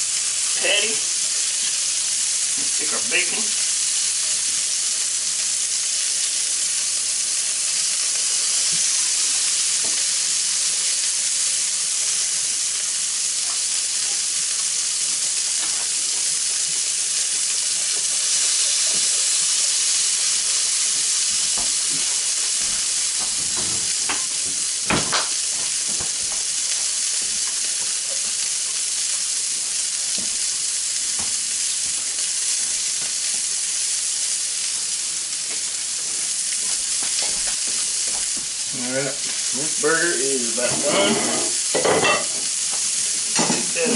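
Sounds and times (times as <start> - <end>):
burger patty sizzling on griddle: 0.0 - 43.9.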